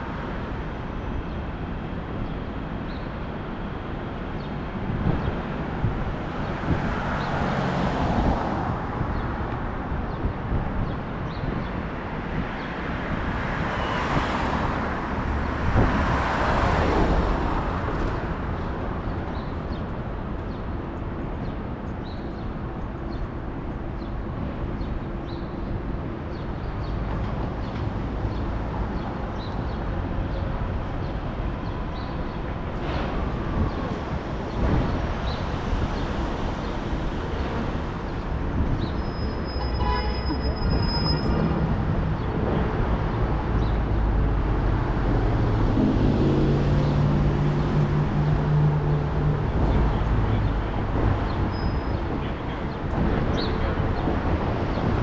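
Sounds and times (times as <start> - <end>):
traffic passing: 0.0 - 55.0.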